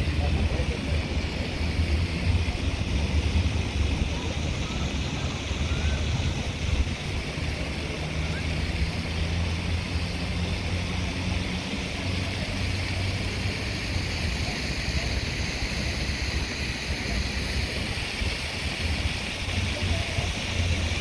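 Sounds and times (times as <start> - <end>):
low city rumble: 0.0 - 21.0.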